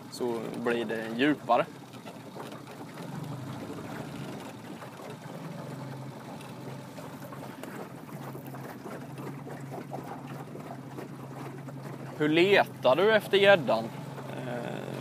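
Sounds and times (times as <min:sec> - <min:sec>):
boat motor humming: 0:00.0 - 0:15.0
water noise: 0:00.0 - 0:15.0
wind: 0:00.0 - 0:15.0.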